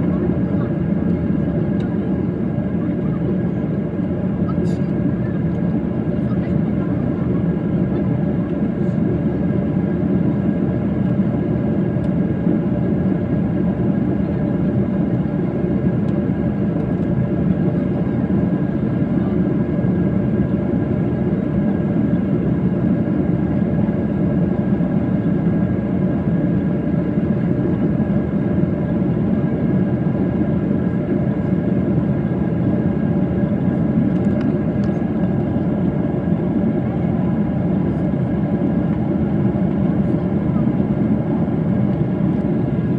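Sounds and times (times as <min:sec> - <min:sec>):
airplane engine drone: 0:00.0 - 0:42.9.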